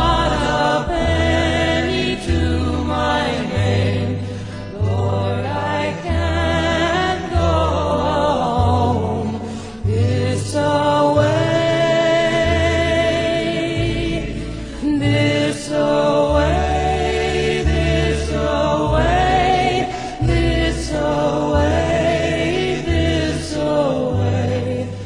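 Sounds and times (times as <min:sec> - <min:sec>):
bass line: 0:00.0 - 0:25.0
choir-like singing: 0:00.0 - 0:25.0.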